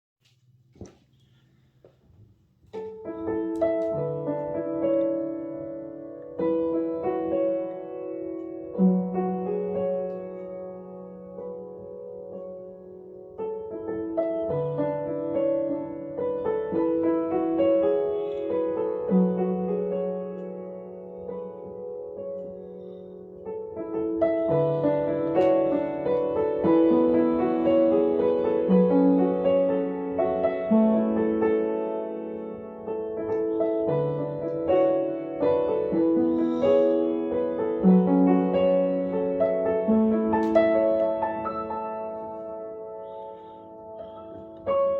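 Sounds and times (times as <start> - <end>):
piano music: 2.7 - 44.9.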